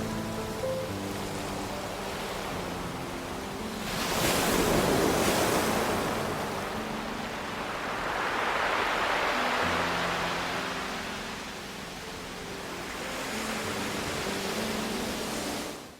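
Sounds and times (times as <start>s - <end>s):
faint sustained music notes: 0.0s - 15.9s
surf on pebble beach: 0.0s - 15.9s.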